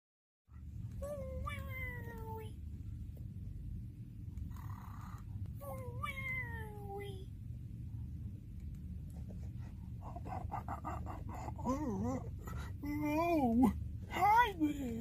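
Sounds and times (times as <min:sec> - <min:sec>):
steady low hum: 0:00.5 - 0:15.0.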